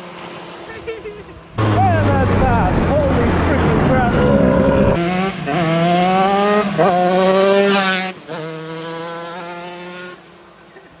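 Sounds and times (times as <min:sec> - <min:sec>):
kart engine accelerating: 0:01.4 - 0:10.2.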